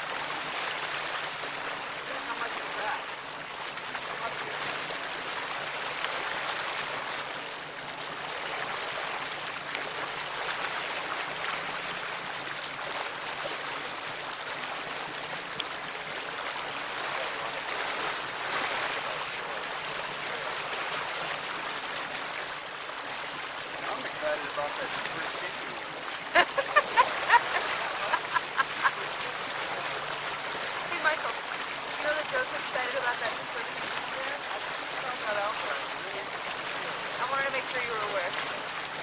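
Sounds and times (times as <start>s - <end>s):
water rushing along hull: 0.0s - 39.0s.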